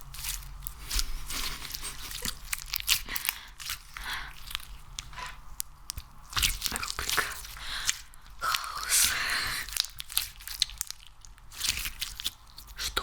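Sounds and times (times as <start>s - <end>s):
sticky clicking and crackling: 0.0s - 13.0s.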